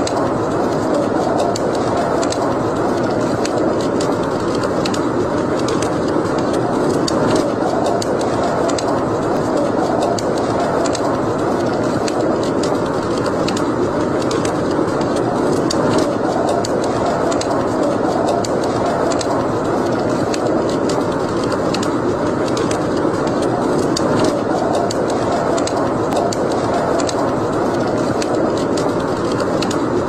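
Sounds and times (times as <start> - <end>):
fire crackles and pops: 0.0 - 30.0
wood fire burning: 0.0 - 30.0.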